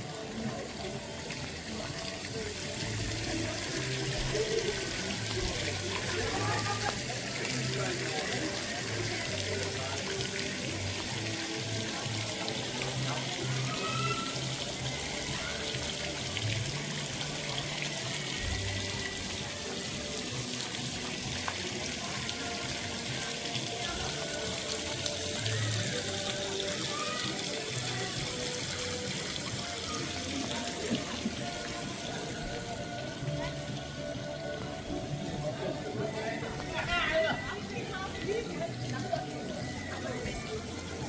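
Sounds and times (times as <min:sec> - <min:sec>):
faint music: 0:00.0 - 0:41.0.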